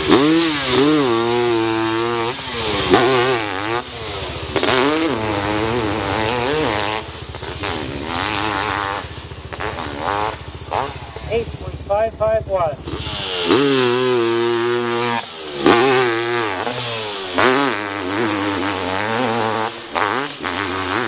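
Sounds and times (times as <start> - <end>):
motorcycle engine revving hard: 0.0 - 21.0.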